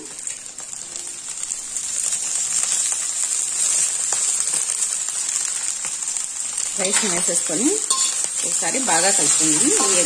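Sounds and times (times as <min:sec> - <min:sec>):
rice sizzling in a hot wok: 0:00.0 - 0:10.0.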